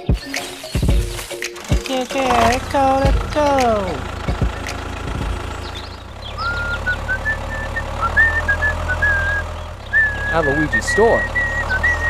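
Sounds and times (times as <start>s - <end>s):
high chirping notes: 0.0s - 12.0s
tractor engine running: 0.0s - 12.0s.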